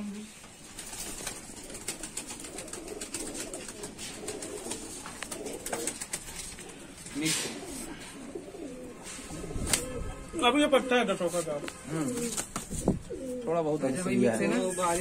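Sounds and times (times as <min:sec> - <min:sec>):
pigeons cooing: 0:00.6 - 0:14.8.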